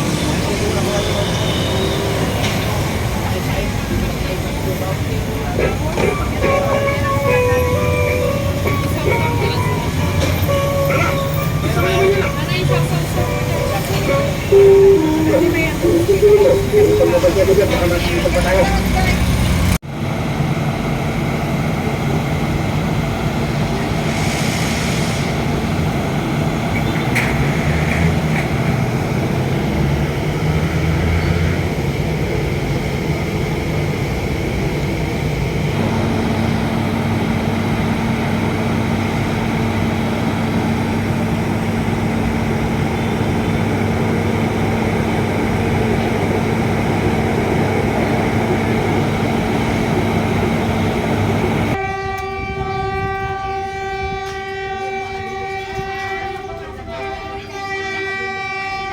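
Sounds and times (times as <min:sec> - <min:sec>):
traffic noise: 0:00.0 - 0:58.9.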